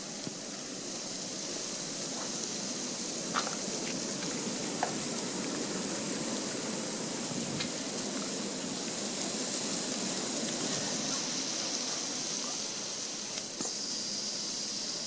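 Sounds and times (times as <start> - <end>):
blizzard wind hissing: 0.0 - 15.0.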